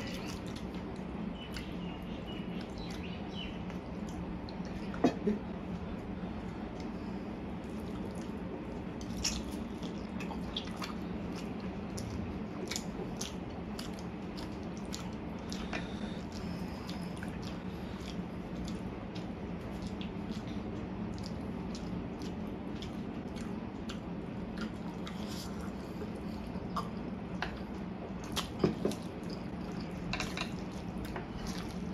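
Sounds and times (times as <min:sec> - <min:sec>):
low steady hum: 0:00.0 - 0:31.9
wet chewing and squelching: 0:00.0 - 0:31.9.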